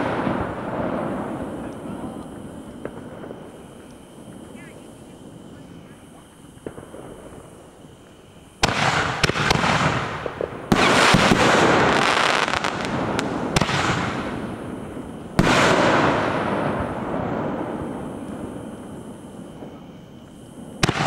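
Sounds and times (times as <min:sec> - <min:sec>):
firework crackling: 0:00.0 - 0:21.0
firework shots: 0:00.0 - 0:21.0.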